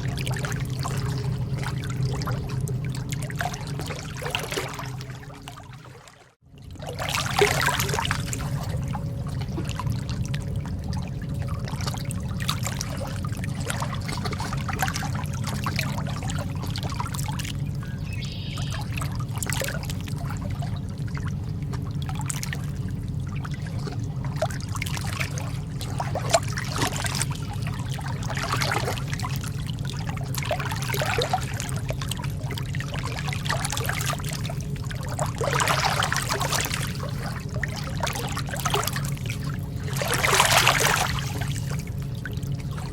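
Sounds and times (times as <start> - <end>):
low rumble: 0.0 - 42.9
sea water lapping: 0.0 - 42.9.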